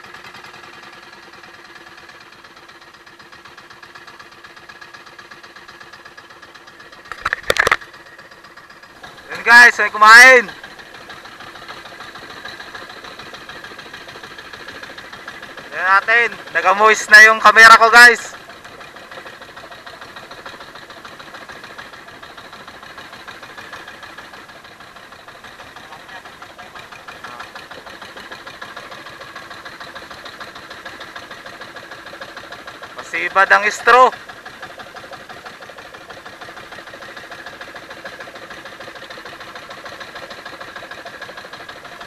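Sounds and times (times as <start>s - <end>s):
boat engine chugging: 0.0s - 42.0s.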